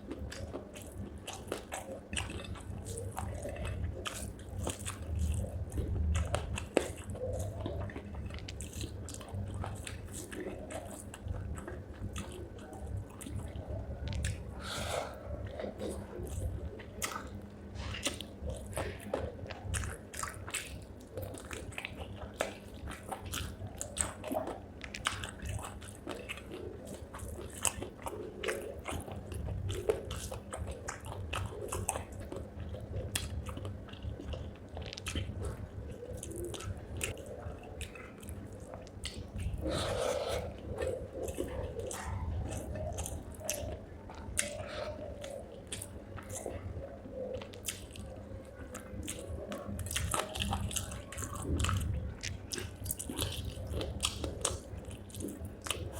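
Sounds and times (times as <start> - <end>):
chewing and crunching: 0.0 - 55.9.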